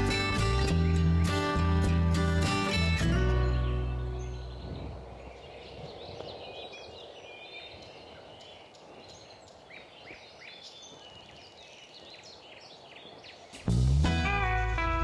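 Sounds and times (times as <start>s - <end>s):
songbirds chirping and whistling: 0.0s - 13.8s
low outdoor background rush: 0.0s - 15.0s.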